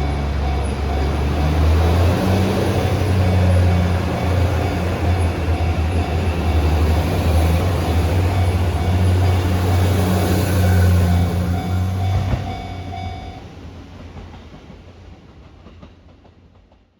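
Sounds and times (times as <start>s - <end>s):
railcar diesel engine hum: 0.0s - 16.9s.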